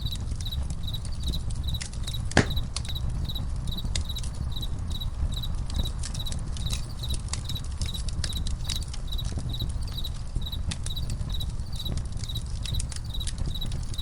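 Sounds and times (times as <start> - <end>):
campfire crackling and popping: 0.0 - 14.0
crickets chirping: 0.0 - 14.0.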